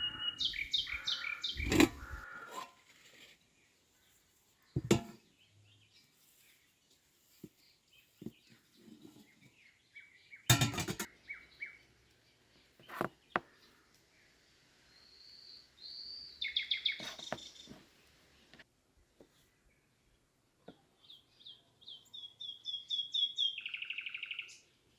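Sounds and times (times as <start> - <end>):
small birds chirping: 0.0 - 18.6, 19.2 - 24.9.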